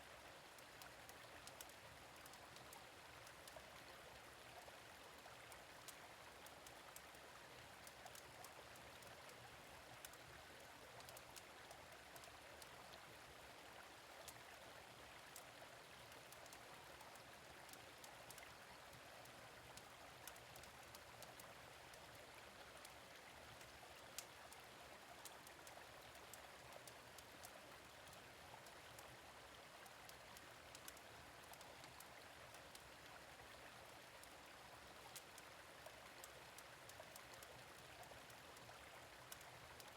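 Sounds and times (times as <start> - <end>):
gentle stream running: 0.0 - 39.9.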